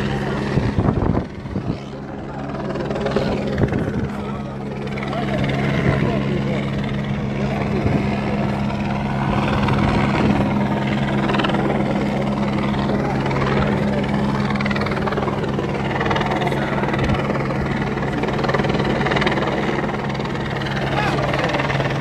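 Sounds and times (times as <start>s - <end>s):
crowd chatter: 0.0s - 22.0s
engine drone: 0.0s - 22.0s.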